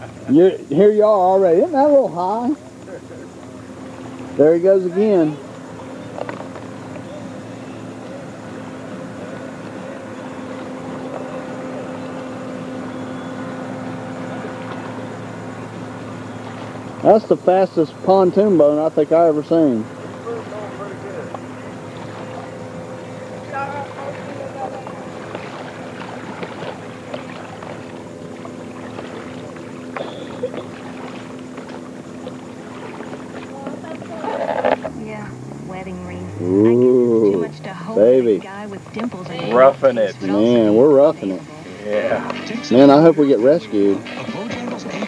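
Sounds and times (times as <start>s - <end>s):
outboard motor droning: 0.0s - 45.0s.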